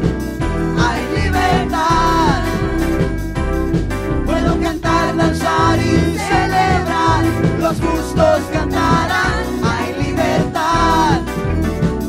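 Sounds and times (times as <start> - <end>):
bass: 0.0 - 12.0
steady drum beat: 0.0 - 12.0
worship band singing: 0.4 - 11.6.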